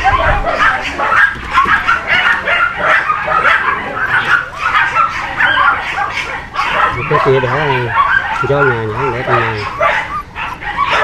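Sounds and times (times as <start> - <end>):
puppies whining and yelping: 0.0 - 11.0.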